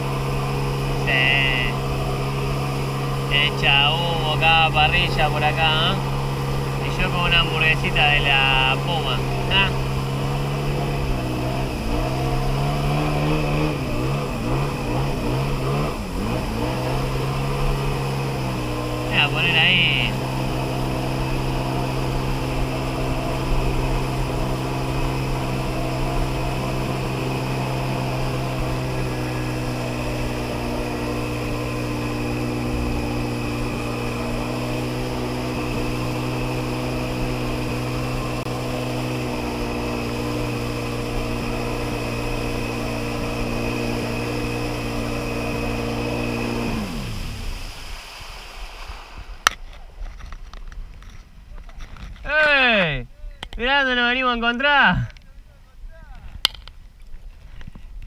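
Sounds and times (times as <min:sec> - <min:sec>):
jet ski engine running: 0:00.0 - 0:58.0.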